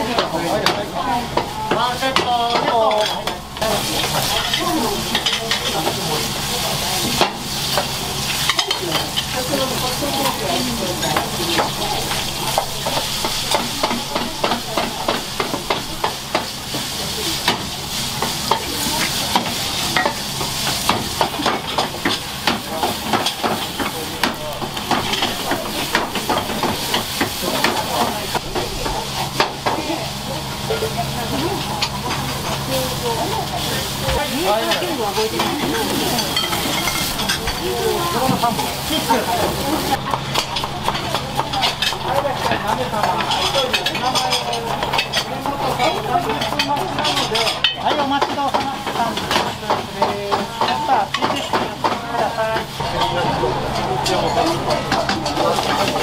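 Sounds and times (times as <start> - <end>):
utensils clicking on pan: 0.0 - 30.0, 31.2 - 56.0
food sizzling in a frying pan: 0.0 - 56.0.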